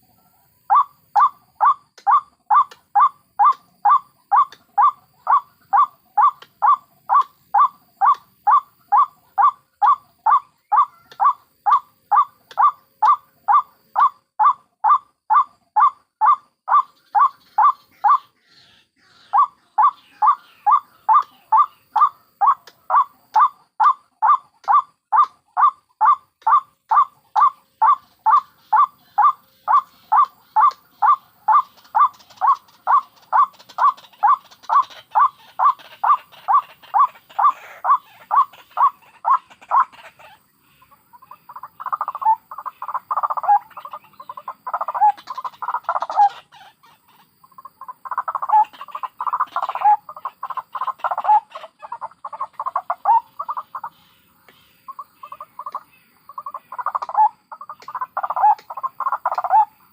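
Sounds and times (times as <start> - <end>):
waterhens calling: 0.7 - 59.9.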